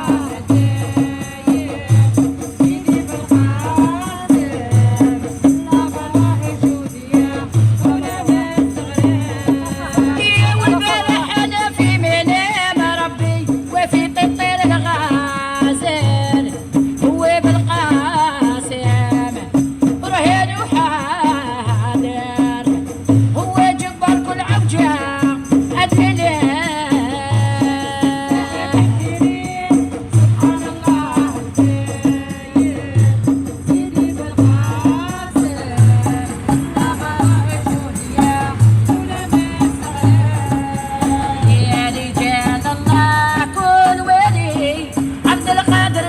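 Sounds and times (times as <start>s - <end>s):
low drum beat: 0.0s - 46.0s
rattling percussion: 0.0s - 46.0s.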